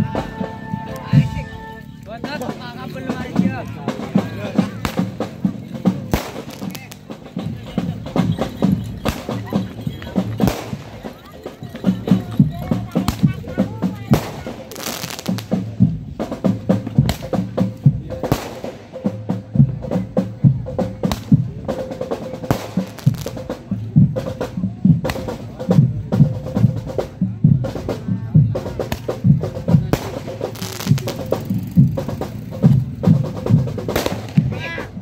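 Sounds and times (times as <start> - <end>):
bass drum beats: 0.0 - 35.0
snare drum rolls: 2.2 - 35.0.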